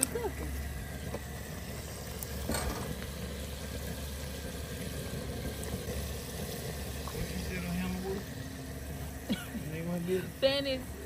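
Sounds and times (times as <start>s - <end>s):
gas burner rumble: 0.0s - 11.0s
oil bubbling and sizzling: 0.0s - 11.0s.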